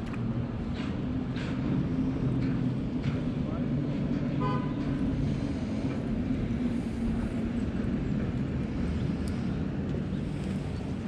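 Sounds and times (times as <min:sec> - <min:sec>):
low engine-like drone: 0:00.0 - 0:11.0.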